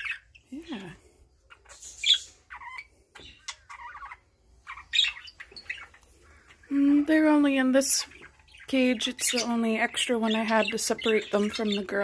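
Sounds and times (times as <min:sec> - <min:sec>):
budgerigars chirping and squawking: 0:00.0 - 0:12.0.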